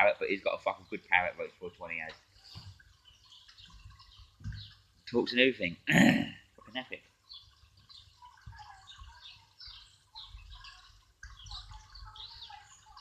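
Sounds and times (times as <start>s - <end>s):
birds chirping faintly: 0.0s - 13.0s
rain dripping and pattering: 0.0s - 13.0s.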